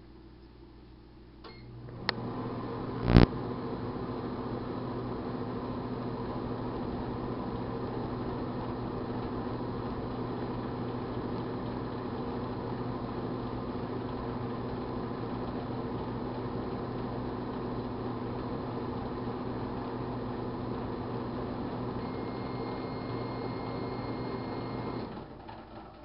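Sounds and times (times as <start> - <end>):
microwave oven electrical hum: 0.0 - 26.0.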